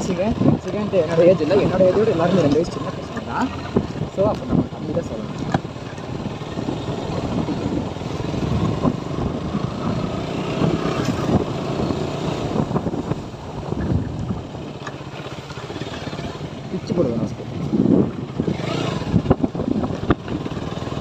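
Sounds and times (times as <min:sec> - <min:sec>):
motorbike engine running: 0:00.0 - 0:21.0
wind buffeting microphone: 0:00.0 - 0:21.0.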